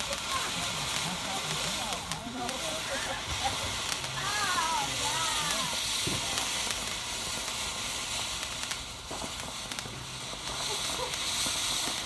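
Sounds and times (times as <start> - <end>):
firework crackles: 0.0 - 12.0
firework hissing: 0.0 - 12.0.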